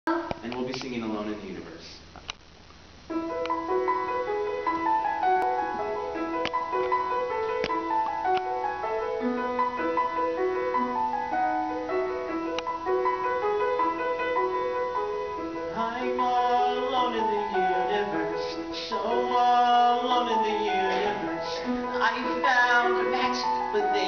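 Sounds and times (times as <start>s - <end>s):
piano broken chords: 2.9s - 24.0s.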